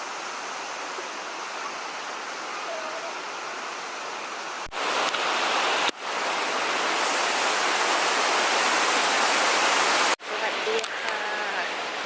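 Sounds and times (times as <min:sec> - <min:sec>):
waterfall rushing water: 0:00.0 - 0:12.0.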